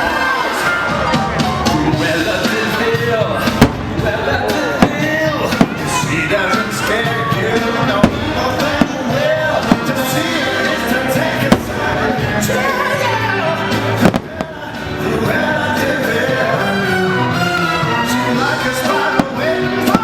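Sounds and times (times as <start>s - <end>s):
firework bangs: 0.0s - 20.0s
music over loudspeakers: 0.0s - 20.0s.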